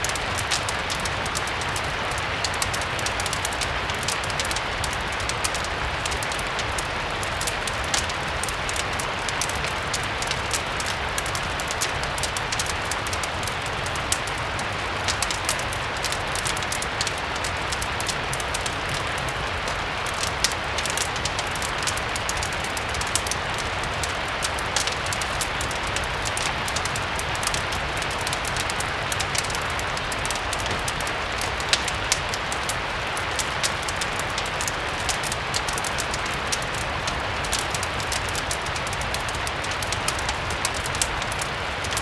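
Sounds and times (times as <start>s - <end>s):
steady rain: 0.0s - 42.0s
wood fire crackling: 0.0s - 42.0s.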